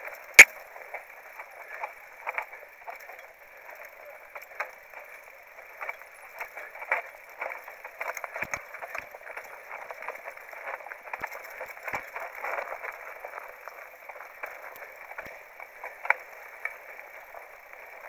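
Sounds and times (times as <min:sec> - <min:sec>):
bike clicks and rattles: 0:00.0 - 0:18.0.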